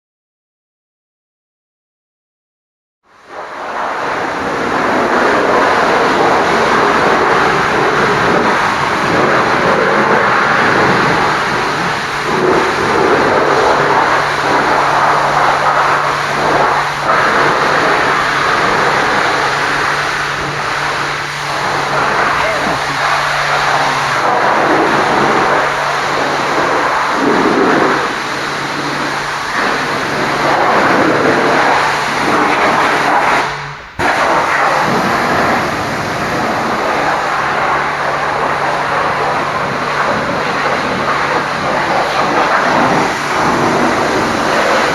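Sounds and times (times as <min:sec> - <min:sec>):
pressure washer spraying water: 0:03.2 - 0:44.9
low hum: 0:03.3 - 0:44.9.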